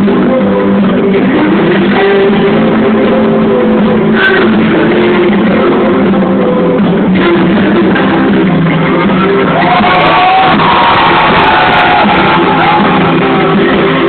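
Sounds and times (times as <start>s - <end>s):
drums: 0.0s - 14.0s
electric guitar strumming: 0.0s - 14.0s.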